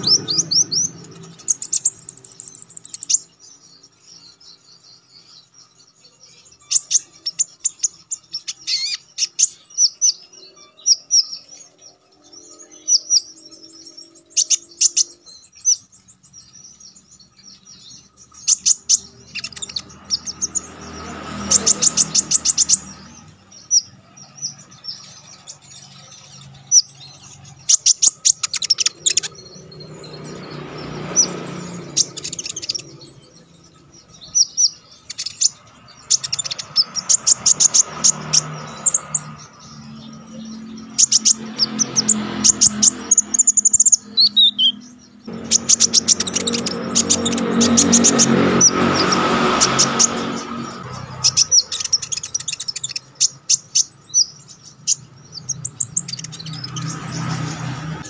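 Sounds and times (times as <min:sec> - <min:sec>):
bird chirping and trilling: 0:00.0 - 0:58.0.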